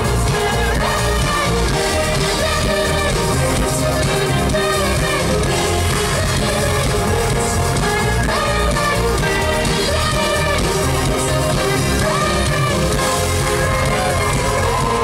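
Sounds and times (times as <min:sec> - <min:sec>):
live pop-rock band: 0:00.0 - 0:15.0
person singing: 0:00.0 - 0:15.0.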